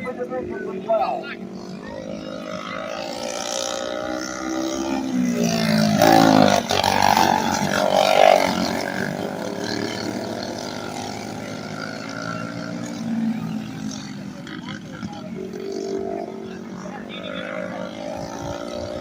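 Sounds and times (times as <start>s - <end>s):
small racing engines passing: 0.0s - 19.0s.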